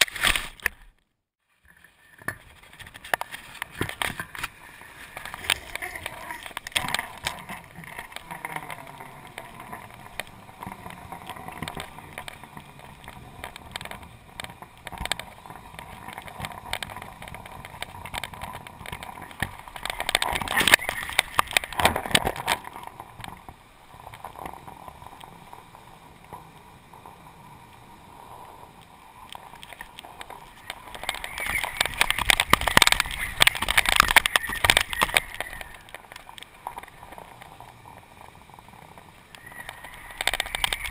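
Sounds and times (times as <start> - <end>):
wind buffeting camera: 2.4 - 26.3, 26.9 - 40.9.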